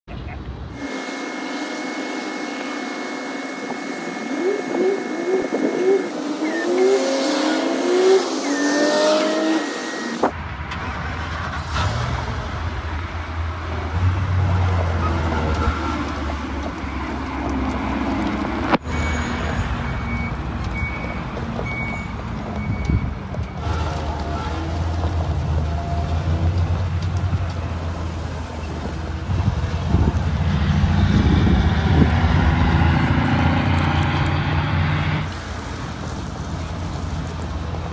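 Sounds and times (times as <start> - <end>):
truck engine revving: 0.7 - 37.9.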